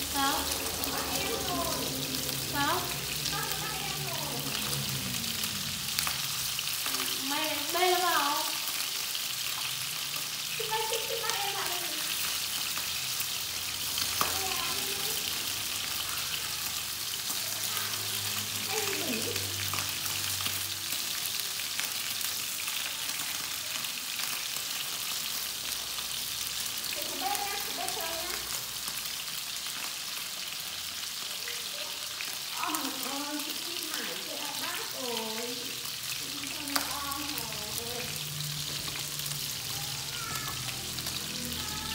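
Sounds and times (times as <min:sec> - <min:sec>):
meat sizzling in a pan: 0:00.0 - 0:41.9.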